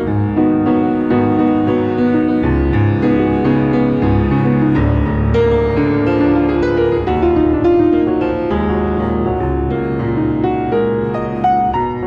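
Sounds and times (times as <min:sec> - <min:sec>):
solo jazz piano: 0:00.0 - 0:12.0.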